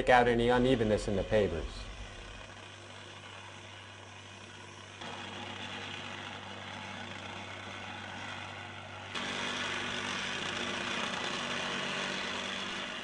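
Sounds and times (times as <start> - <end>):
plate compactor engine drone: 0.0 - 13.0.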